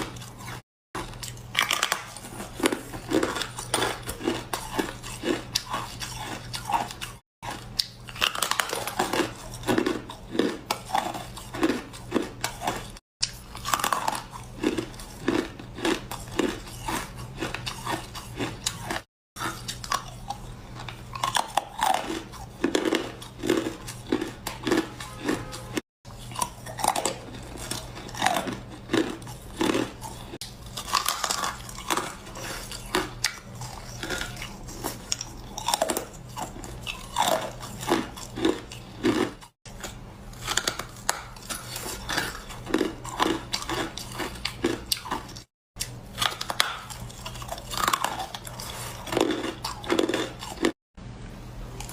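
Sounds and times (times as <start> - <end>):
person chewing ice: 0.0 - 50.8.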